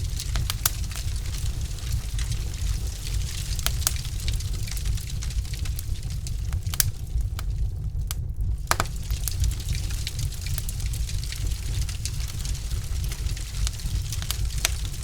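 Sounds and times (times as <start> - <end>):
logs crackling and popping: 0.0 - 15.0
low rumble of fire: 0.0 - 15.0.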